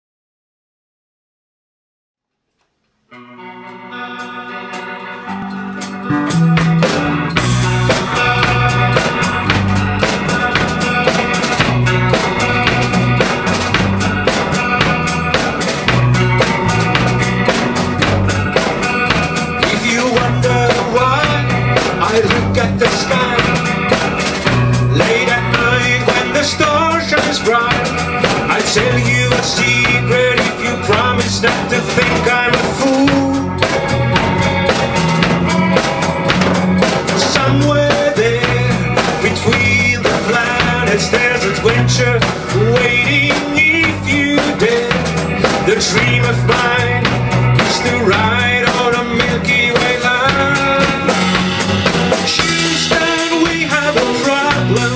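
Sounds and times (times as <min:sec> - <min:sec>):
electric guitar bending lines: 0:02.5 - 0:54.9
electric bass: 0:03.2 - 0:54.9
drum kit beat: 0:03.4 - 0:54.9.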